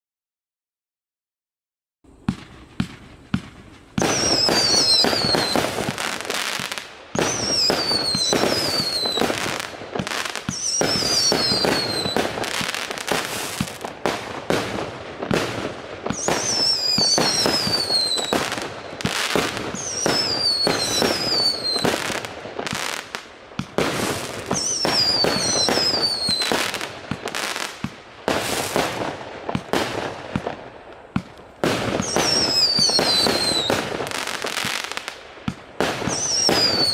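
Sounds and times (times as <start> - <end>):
falling firework whistles: 2.1 - 36.9
fireworks launch bangs: 2.1 - 36.9.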